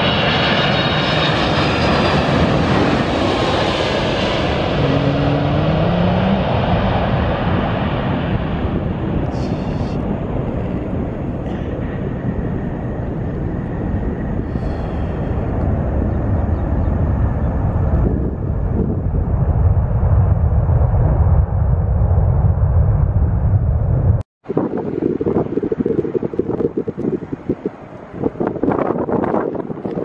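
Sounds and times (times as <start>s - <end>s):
jet engines rushing rumble: 0.0s - 30.0s.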